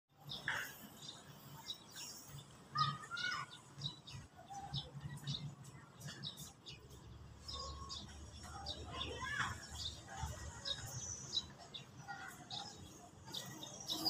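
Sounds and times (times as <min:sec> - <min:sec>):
birds chirping: 0:00.1 - 0:14.0.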